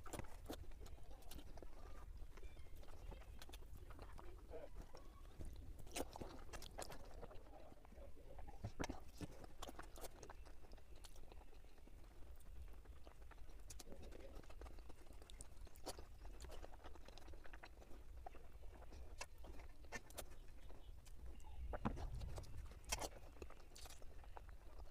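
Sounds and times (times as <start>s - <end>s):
person chewing food: 0.0s - 24.9s.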